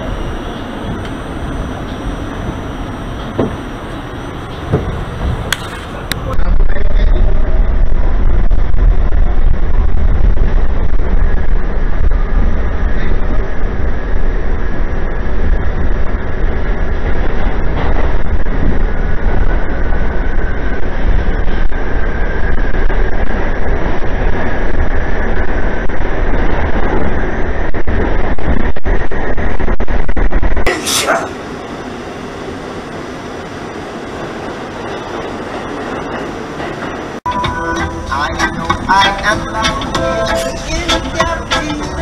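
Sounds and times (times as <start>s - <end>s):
subway wheels rumbling on track: 0.0s - 42.0s.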